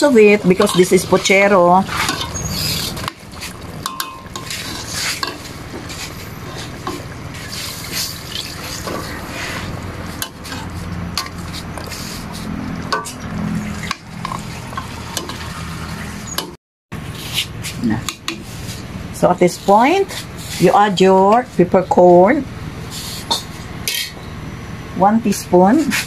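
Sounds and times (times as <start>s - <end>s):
steady low hum: 0.0s - 16.0s, 17.0s - 26.0s
utensil scraping against pot: 0.0s - 16.5s, 17.1s - 21.6s.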